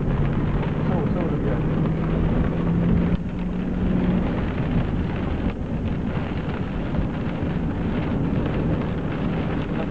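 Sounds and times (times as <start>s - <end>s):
heavy rain and hail: 0.0s - 9.9s
wind buffeting microphone: 0.0s - 9.9s.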